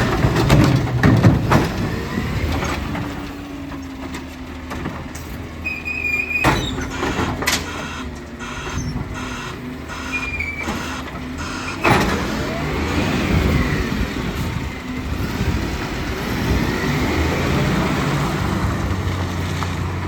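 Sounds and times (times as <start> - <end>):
refuse truck engine hum: 0.0 - 20.0.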